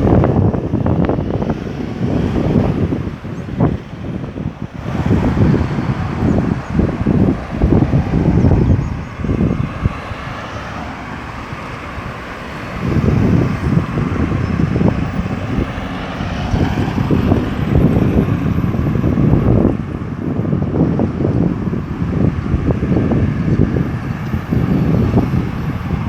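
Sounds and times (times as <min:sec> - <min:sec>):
road traffic: 0:00.0 - 0:26.0
wind buffeting microphone: 0:00.0 - 0:26.0.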